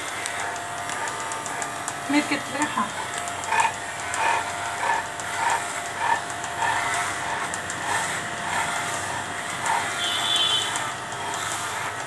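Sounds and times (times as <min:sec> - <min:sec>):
electric clippers humming: 0:00.0 - 0:12.0.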